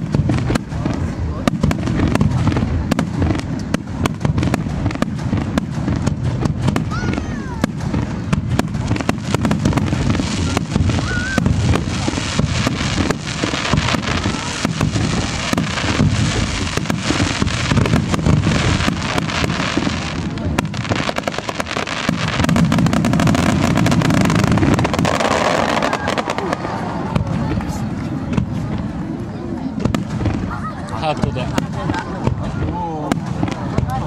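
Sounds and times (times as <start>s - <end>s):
deep firework booms: 0.0s - 34.0s
firework crackle: 0.0s - 34.0s.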